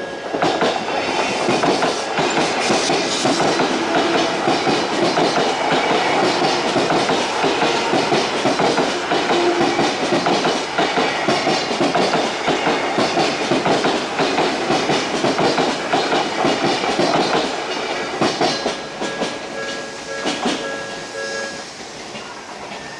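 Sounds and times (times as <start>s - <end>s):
electric train passing: 0.0s - 22.9s
train wheels clattering over rail joints: 0.4s - 20.7s.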